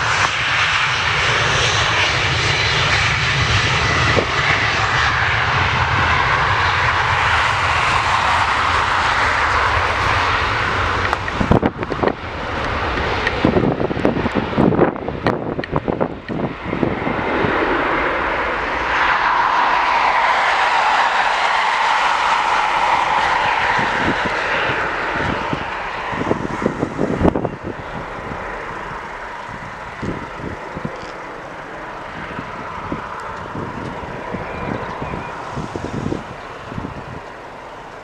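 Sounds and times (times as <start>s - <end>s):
jet engines passing: 0.0s - 38.0s
wind buffeting microphone: 0.0s - 38.0s.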